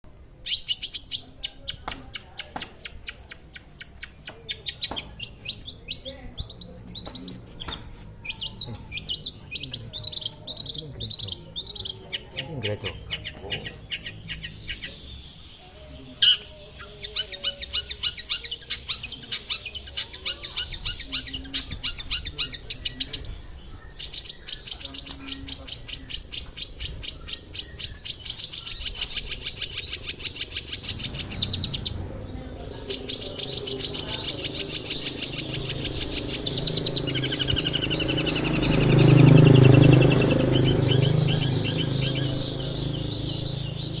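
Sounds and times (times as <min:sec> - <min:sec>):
bird chattering song: 0:00.4 - 0:44.0.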